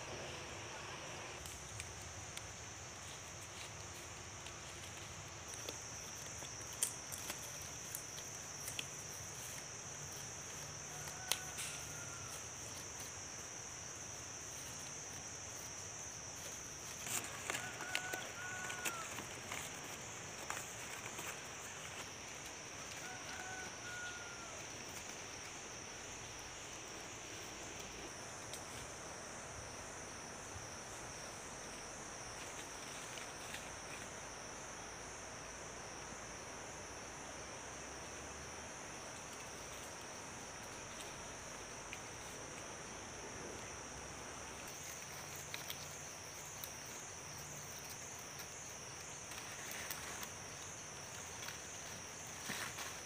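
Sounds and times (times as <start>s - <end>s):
insects droning: 0.0s - 53.0s
dry palm fronds rustling: 0.1s - 29.4s, 30.6s - 34.4s, 43.6s - 53.0s.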